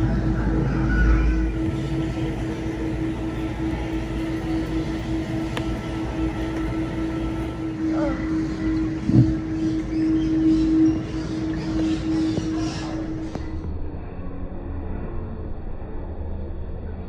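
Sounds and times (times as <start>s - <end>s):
aquarium pumps humming: 0.0s - 13.7s.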